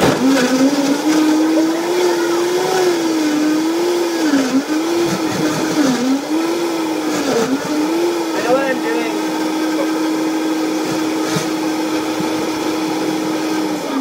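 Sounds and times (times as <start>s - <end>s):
blender crushing ice: 0.0s - 14.0s.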